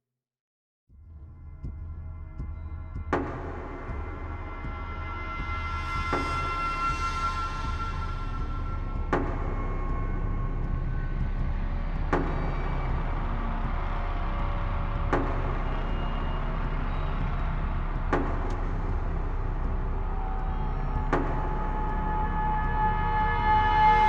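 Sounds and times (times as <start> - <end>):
low rumbling drone: 0.9 - 24.0.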